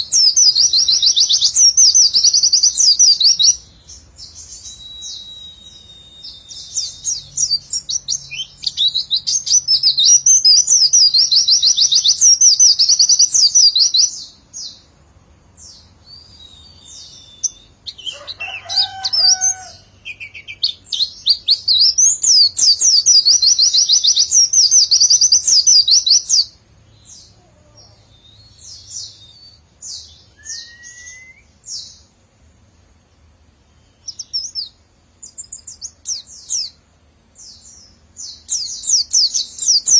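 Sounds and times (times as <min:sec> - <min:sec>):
soft bird chirps: 0:00.0 - 0:14.9, 0:15.6 - 0:32.1, 0:33.0 - 0:36.8.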